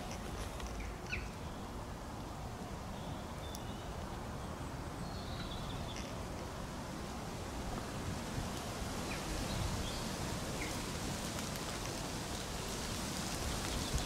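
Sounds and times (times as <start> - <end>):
rustling hiss: 0.0 - 14.0
wind rumble on microphone: 0.0 - 14.0.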